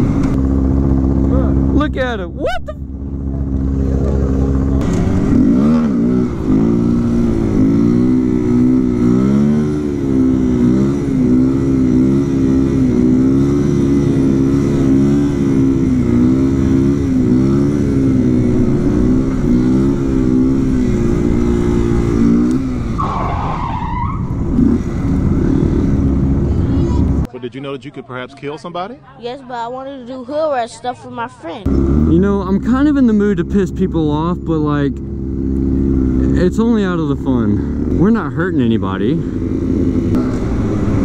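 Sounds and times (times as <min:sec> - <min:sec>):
motorcycle engine revving: 0:00.0 - 0:27.3, 0:31.6 - 0:41.0.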